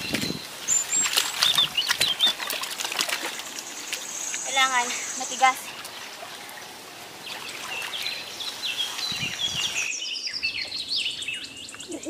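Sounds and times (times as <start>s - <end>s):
birds chirping: 0.0s - 12.0s
faint outdoor hiss: 0.0s - 12.0s.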